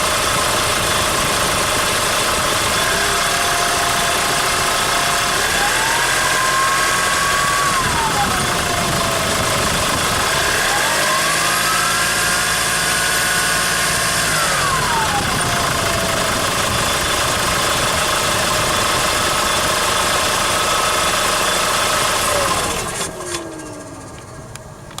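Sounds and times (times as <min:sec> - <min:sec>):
engine running: 0:00.0 - 0:25.0
turbocharger whistle: 0:02.6 - 0:24.1.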